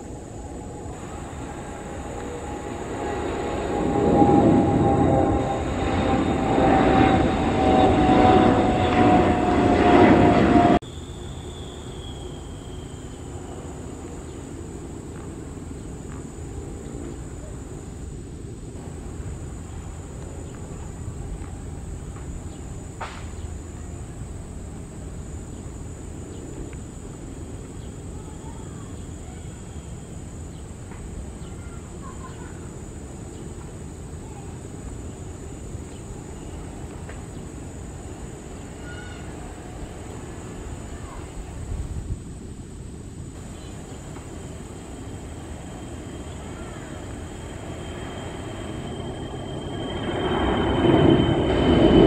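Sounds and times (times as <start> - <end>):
distant jet engine hum: 0.0 - 52.0
insects droning: 0.0 - 52.0
loud jet engine roar with whine: 0.0 - 52.0.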